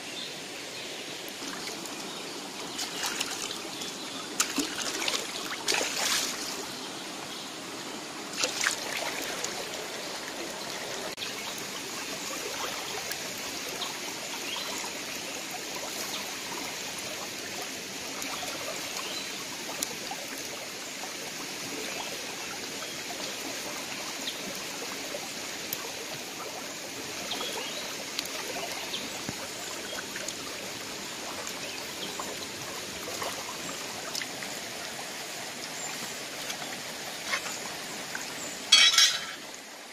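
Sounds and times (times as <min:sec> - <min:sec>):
rocky stream running: 0:00.0 - 0:39.9
water splashes: 0:01.2 - 0:06.8, 0:08.3 - 0:39.9.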